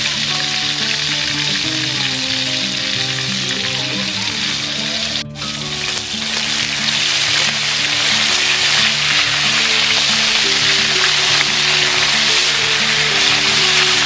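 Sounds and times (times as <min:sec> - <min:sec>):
background music: 0:00.0 - 0:14.0
food frying in hot oil: 0:00.0 - 0:14.0.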